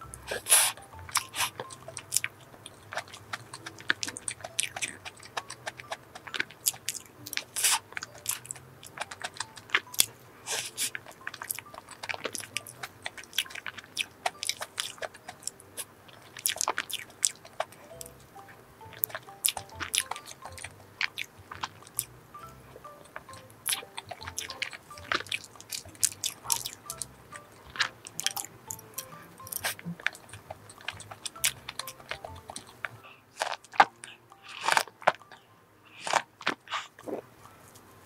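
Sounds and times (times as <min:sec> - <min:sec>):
mouth clicks and chewing: 0:00.0 - 0:37.9
quiet background music: 0:00.0 - 0:38.0.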